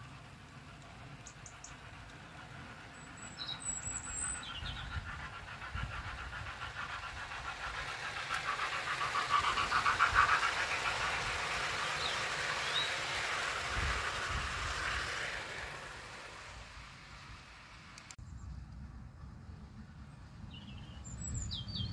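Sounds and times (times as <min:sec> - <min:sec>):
model train wheels clattering: 0:00.0 - 0:18.2.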